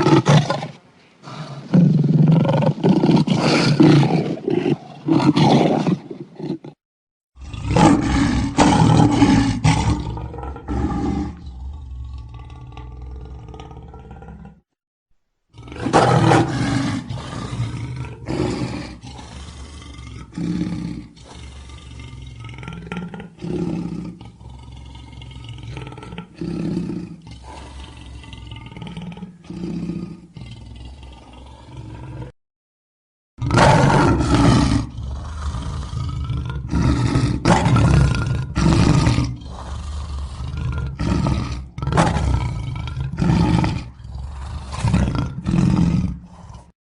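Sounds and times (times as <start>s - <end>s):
lion roaring: 0.0s - 6.8s, 7.4s - 14.6s, 15.5s - 32.3s, 33.4s - 46.8s.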